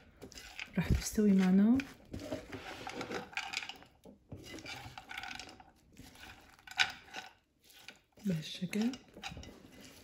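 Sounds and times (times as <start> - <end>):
spoon scraping and clinking in pan: 0.0 - 10.0.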